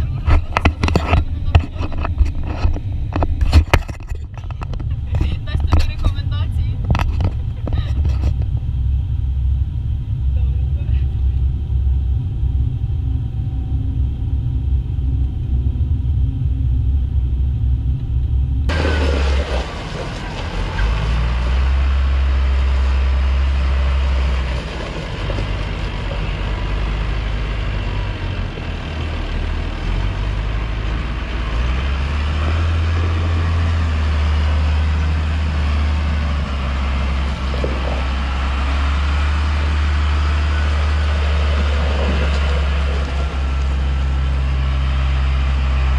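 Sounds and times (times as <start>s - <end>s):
farm machinery engines rumbling: 0.0s - 45.9s.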